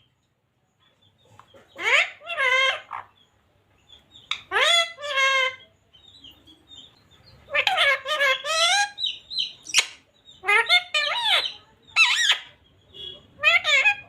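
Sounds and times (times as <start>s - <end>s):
parakeet calling: 1.6s - 3.3s, 4.0s - 14.0s.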